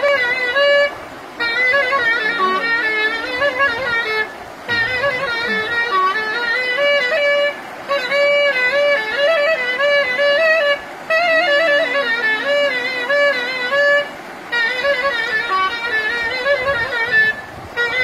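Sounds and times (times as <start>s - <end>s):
solo wind instrument folk melody: 0.0s - 18.0s.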